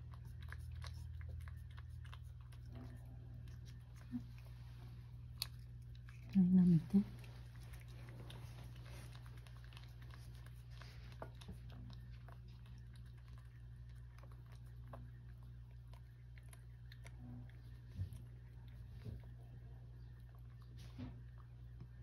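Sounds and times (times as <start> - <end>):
cat licking wet clicks: 0.0 - 19.5.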